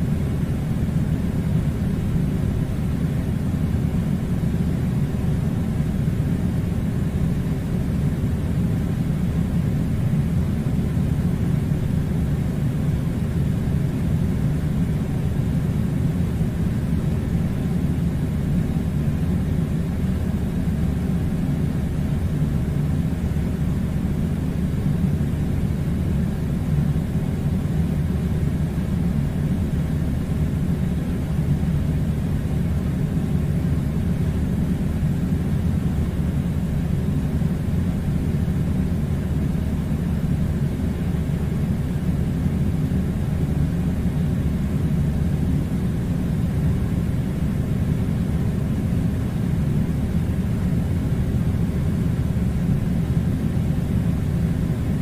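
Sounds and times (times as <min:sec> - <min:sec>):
air conditioner drone: 0:00.0 - 0:55.0.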